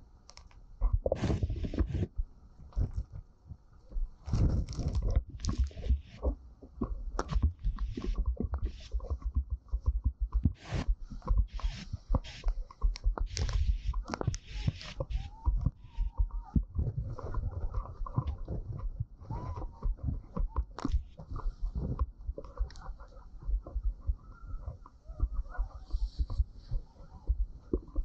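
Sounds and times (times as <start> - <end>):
rain tapping on camera: 4.2 - 28.0.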